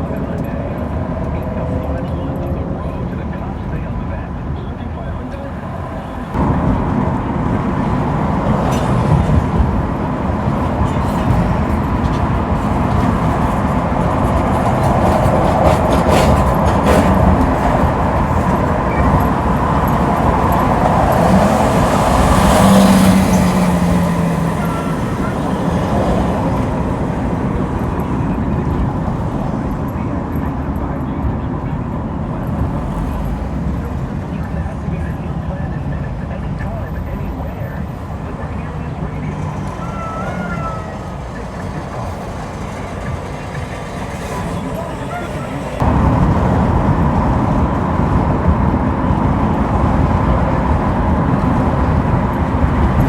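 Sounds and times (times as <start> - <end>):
car driving at highway speed: 0.0 - 53.0.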